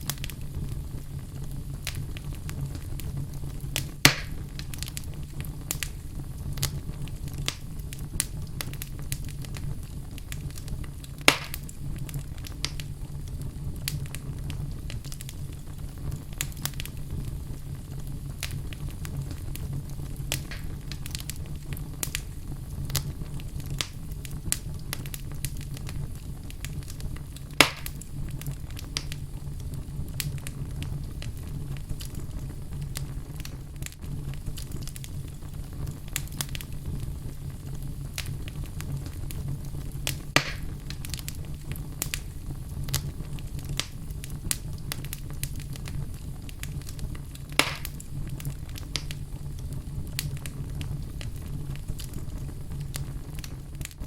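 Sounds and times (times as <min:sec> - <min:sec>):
fire crackling: 0:00.0 - 0:54.0
fire popping sharply: 0:00.0 - 0:54.0
low rumble of flames: 0:00.0 - 0:54.0.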